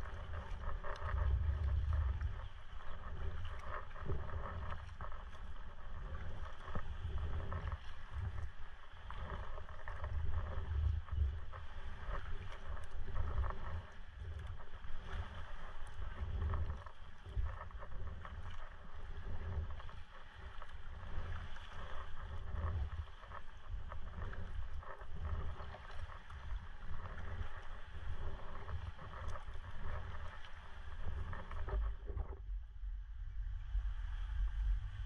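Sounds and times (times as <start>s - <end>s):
kayak paddle strokes: 0.0s - 32.4s.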